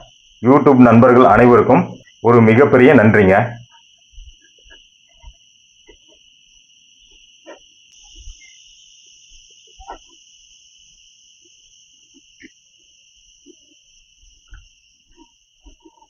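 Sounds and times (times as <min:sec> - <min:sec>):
forest insects droning: 0:00.0 - 0:16.0.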